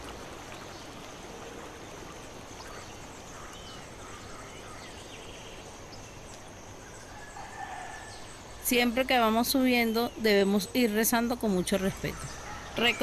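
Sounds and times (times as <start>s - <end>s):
forest ambience hiss: 0.0s - 13.0s.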